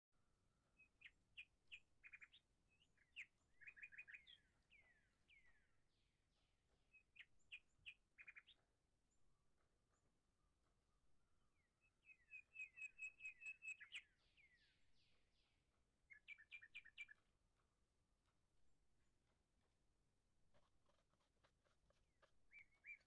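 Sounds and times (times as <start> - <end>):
songbirds chirping and trilling: 0.5 - 18.4, 20.6 - 23.0.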